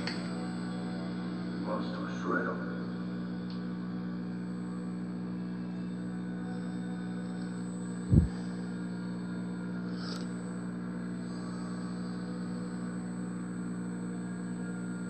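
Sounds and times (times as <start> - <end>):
television electrical hum: 0.0 - 15.0
thin high whine: 0.0 - 15.0.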